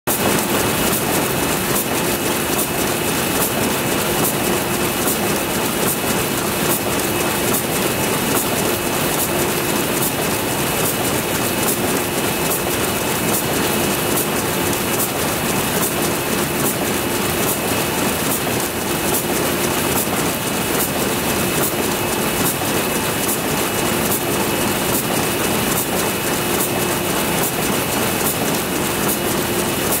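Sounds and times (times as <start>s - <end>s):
power loom clattering: 0.1s - 30.0s.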